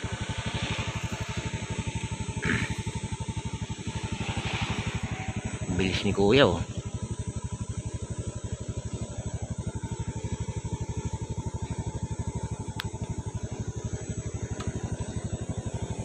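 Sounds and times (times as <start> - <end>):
motorcycle engine throbbing: 0.0 - 16.0.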